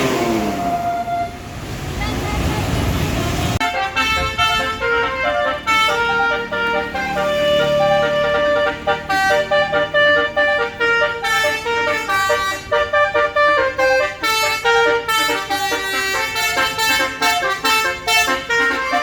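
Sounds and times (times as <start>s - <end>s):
multi-tone air horn playing tune: 0.0s - 2.9s, 3.6s - 19.0s.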